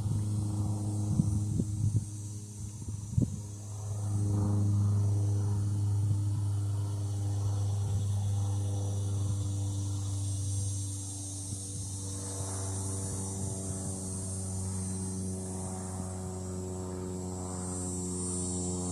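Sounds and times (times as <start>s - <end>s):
low engine drone: 0.0s - 18.9s.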